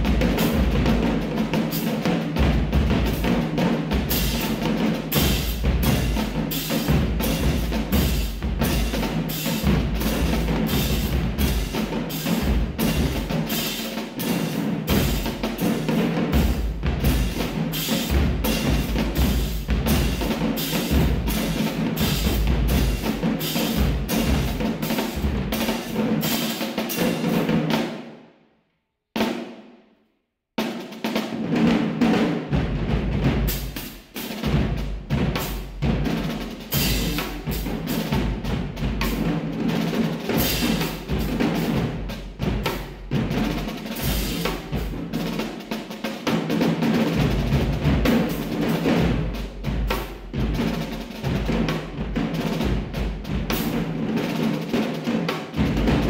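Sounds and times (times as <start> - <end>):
marching drumline: 0.0 - 28.3, 29.2 - 29.8, 30.6 - 56.0.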